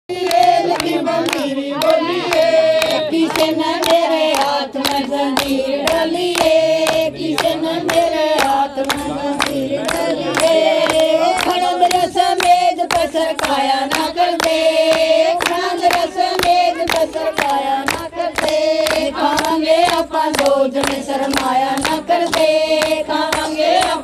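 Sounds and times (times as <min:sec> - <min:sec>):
hand-clapping: 0:00.1 - 0:24.0
women singing folk song: 0:00.1 - 0:24.0.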